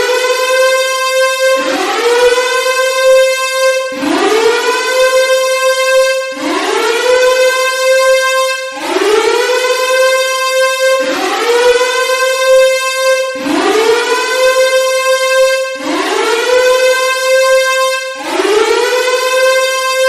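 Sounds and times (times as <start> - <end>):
warning siren: 0.0 - 20.0.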